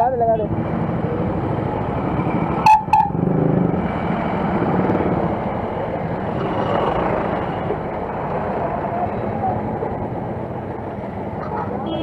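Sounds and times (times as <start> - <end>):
engines running at low revs: 0.4 - 11.9.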